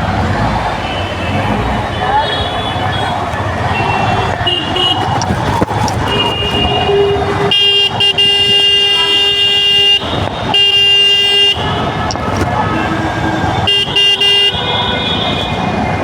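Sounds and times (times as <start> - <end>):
traffic engine and road noise: 0.0 - 16.0
vehicle horns honking: 0.8 - 15.7.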